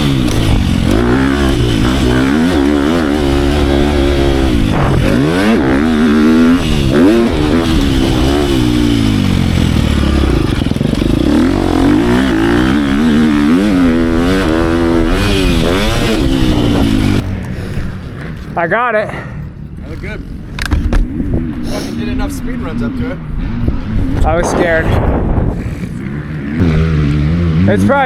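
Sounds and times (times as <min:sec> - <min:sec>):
dirt bike engine revving: 0:00.0 - 0:18.7, 0:19.6 - 0:28.0.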